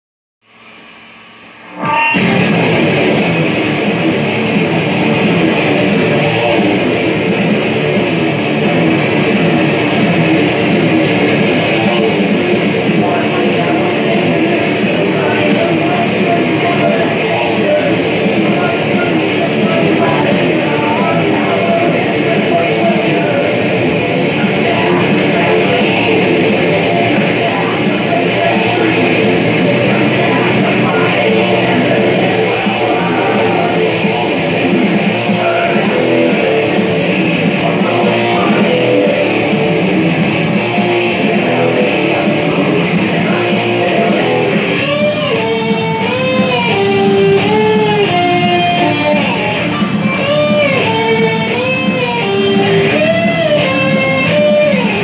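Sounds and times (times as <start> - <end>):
distorted electric guitar riffing: 0.4 - 55.0.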